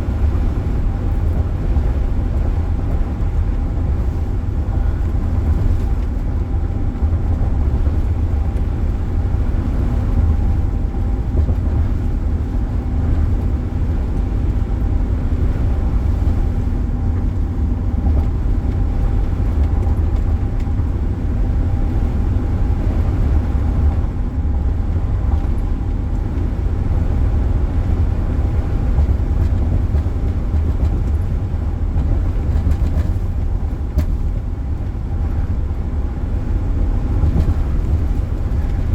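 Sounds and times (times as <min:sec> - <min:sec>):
road and engine noise in car: 0:00.0 - 0:38.9.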